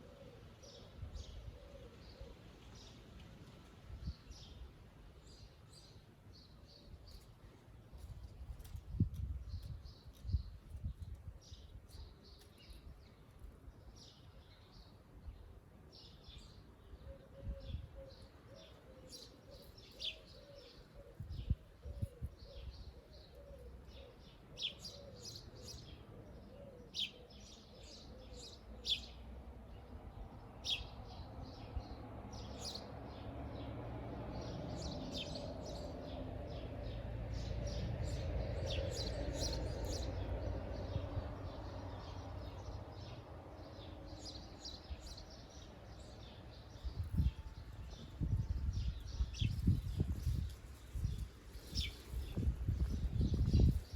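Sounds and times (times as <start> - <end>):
birds singing and chirping: 4.0 - 53.9.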